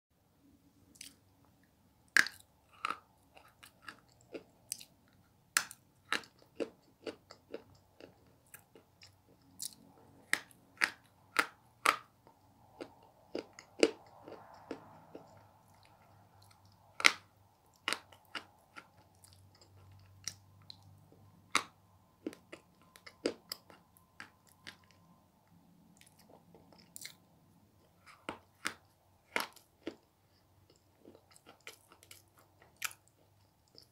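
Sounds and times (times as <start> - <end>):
soft chewing: 0.9 - 33.9.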